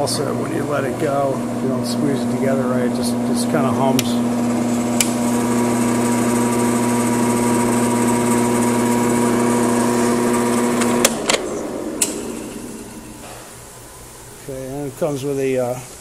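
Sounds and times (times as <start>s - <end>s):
drill press motor humming: 0.0s - 14.5s.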